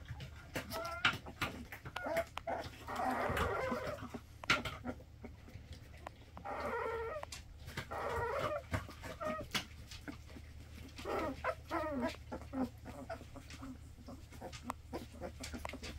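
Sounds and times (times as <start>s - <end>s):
puppies whimpering and squeaking: 0.0s - 15.9s.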